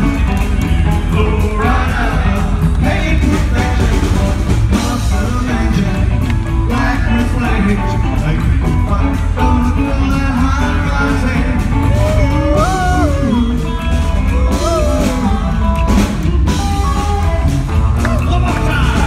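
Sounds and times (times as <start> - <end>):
drum kit beat: 0.0 - 19.0
electric guitar: 0.0 - 19.0.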